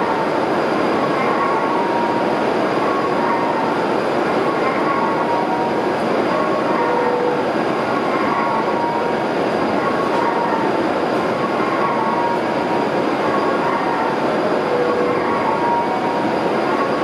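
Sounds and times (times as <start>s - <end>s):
train equipment running: 0.0s - 17.0s.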